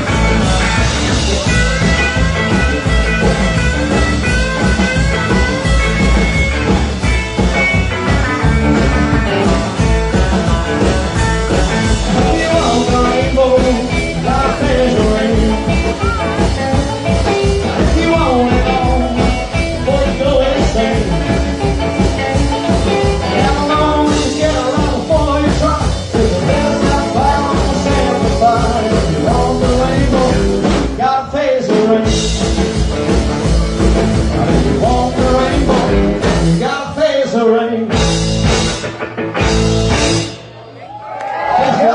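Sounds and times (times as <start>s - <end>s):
rock and roll band playing live: 0.0s - 41.9s.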